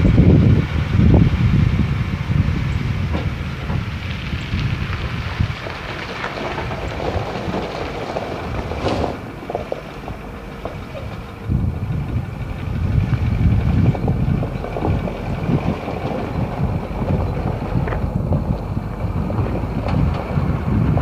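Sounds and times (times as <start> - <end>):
diesel truck engine rumble: 0.0 - 21.0
wind noise on microphone: 0.0 - 21.0.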